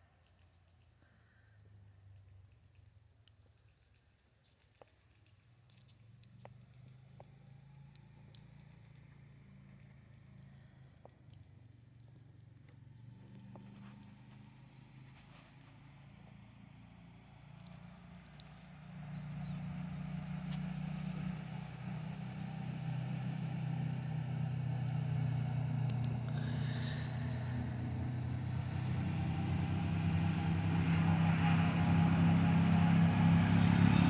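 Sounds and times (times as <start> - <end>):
vehicle engine humming: 6.1 - 34.0.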